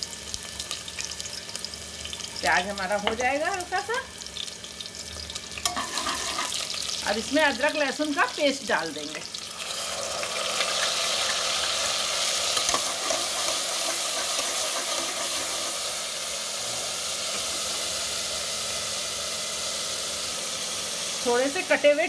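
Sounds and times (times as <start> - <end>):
paste and onion sizzling in oil: 0.0 - 22.0.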